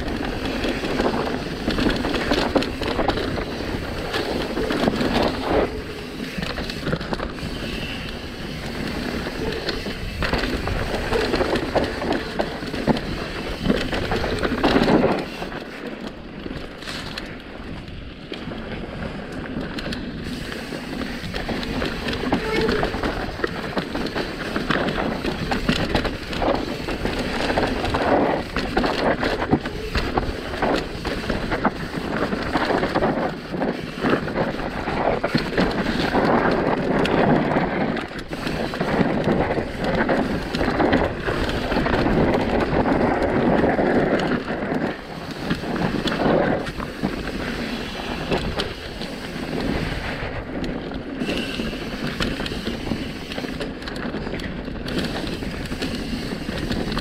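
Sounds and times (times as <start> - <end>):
bike clattering over bumps: 0.0 - 57.0
bike tyres rolling over dirt: 0.0 - 57.0
wind noise on microphone: 0.0 - 57.0.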